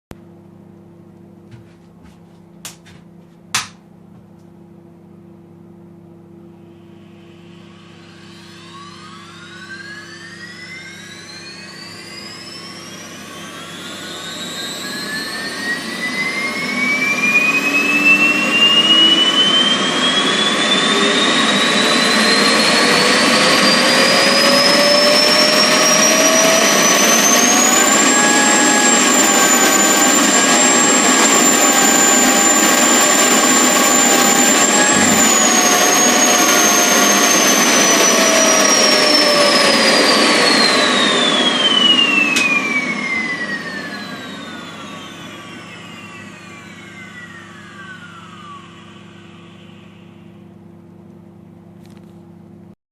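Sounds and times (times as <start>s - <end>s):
vacuum cleaner motor whine: 5.0s - 52.6s.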